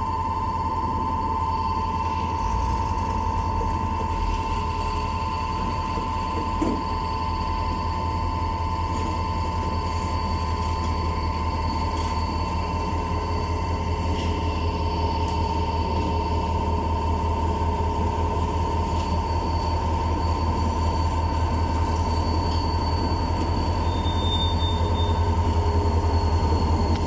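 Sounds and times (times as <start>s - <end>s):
crossing signal high-pitched tone: 0.0s - 27.0s
diesel locomotive engine rumbling: 0.0s - 27.0s.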